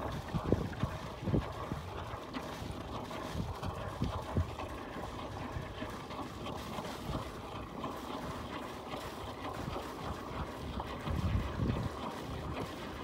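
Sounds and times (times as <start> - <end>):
wind buffeting microphone: 0.0 - 7.6, 9.4 - 13.0.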